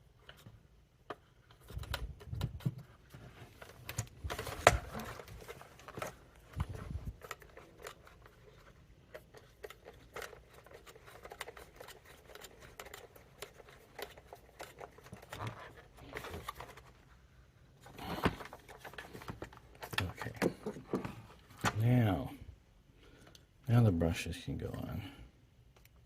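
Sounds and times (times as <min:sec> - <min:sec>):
plastic parts clicking and rattling: 0:00.2 - 0:17.1, 0:17.8 - 0:21.9.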